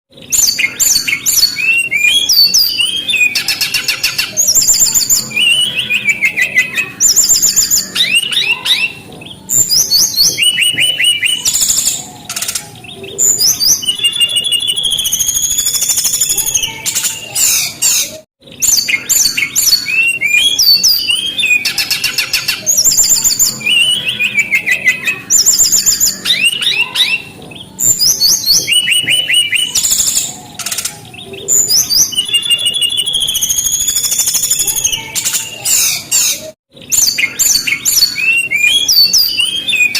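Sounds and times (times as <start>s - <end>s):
bird singing trills and whistles: 0.1s - 39.9s.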